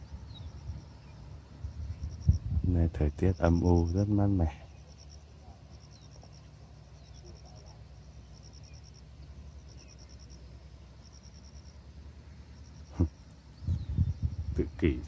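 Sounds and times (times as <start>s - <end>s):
insects trilling: 0.0s - 15.0s
low steady rumble: 0.0s - 15.0s.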